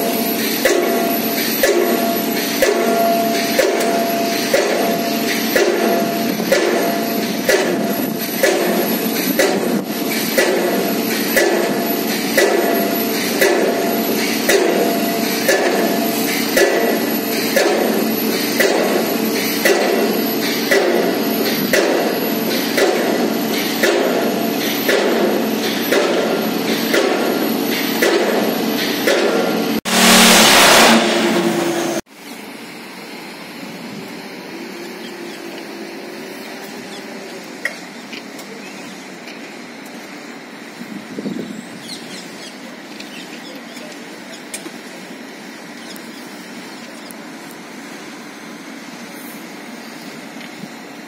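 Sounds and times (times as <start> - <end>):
outdoor background noise: 0.0 - 51.0.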